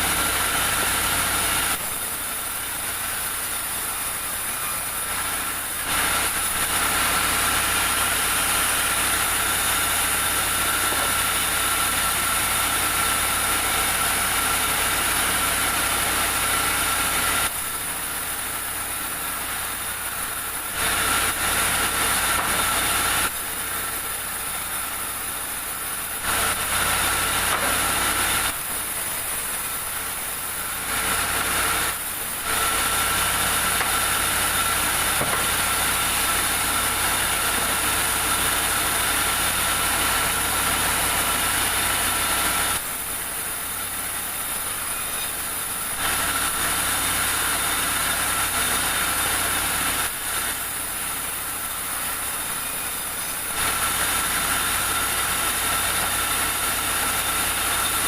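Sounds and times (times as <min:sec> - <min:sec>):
sawmill machinery whining: 0:00.0 - 0:58.0.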